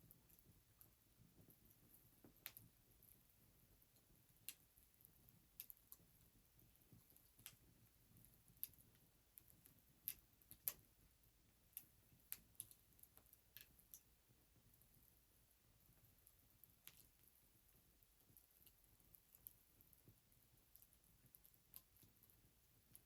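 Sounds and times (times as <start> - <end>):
wood fire crackling and popping: 0.0 - 15.1, 15.8 - 23.0.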